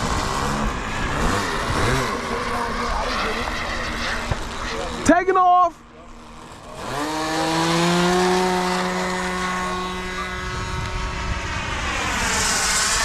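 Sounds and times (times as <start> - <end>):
model airplane motor whine: 0.0 - 5.1, 6.1 - 13.0.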